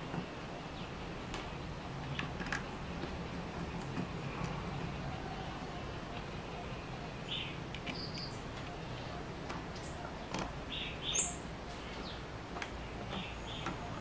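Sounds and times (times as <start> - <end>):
low background hum: 0.0 - 14.0
small birds chirping: 0.0 - 14.0.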